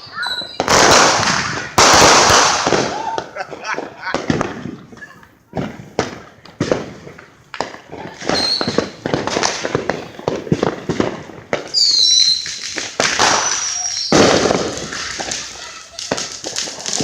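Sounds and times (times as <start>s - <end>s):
fireworks bangs and crackling: 0.0s - 17.0s
whistling fireworks shrieking: 0.0s - 17.0s.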